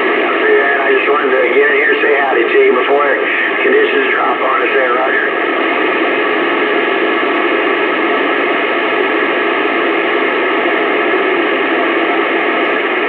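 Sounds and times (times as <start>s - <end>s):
faint steady tones: 0.0s - 13.0s
radio static hiss: 0.0s - 13.0s.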